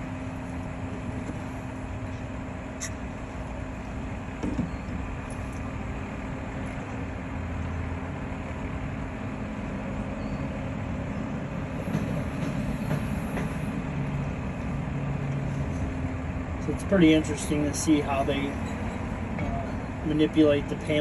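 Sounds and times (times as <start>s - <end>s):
crane machinery humming: 0.0s - 21.0s.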